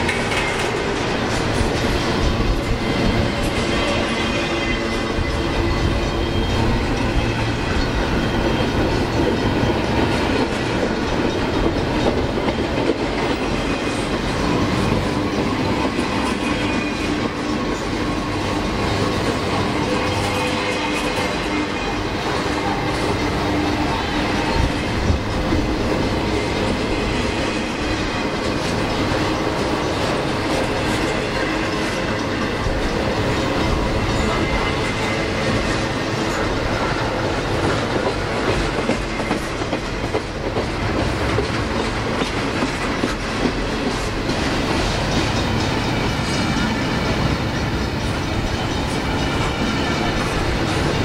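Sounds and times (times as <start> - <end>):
freight car wheels clickety-clack: 0.0 - 51.0.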